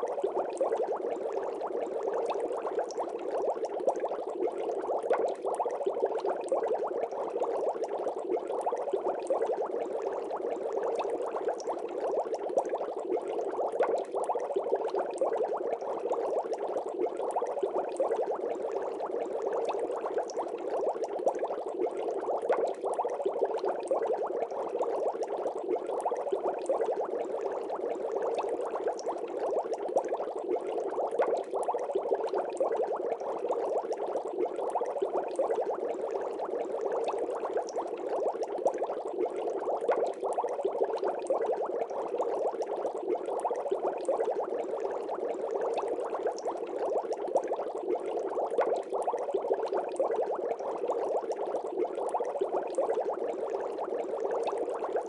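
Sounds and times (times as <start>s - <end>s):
water bubbling: 0.0s - 55.0s.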